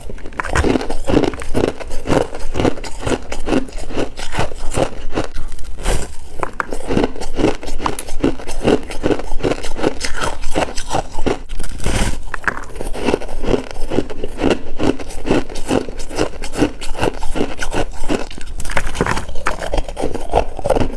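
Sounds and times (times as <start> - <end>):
frost being chewed: 0.0 - 20.9.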